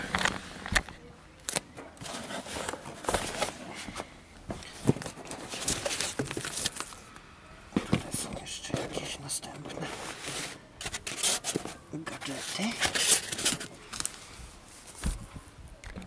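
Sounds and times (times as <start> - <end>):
packaging rustling and scraping: 1.5 - 7.1, 7.8 - 15.2.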